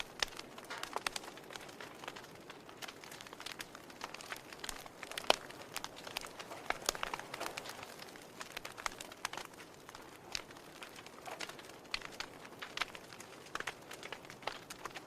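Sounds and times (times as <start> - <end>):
campfire hiss: 0.0 - 15.0
campfire pops and snaps: 0.0 - 15.0.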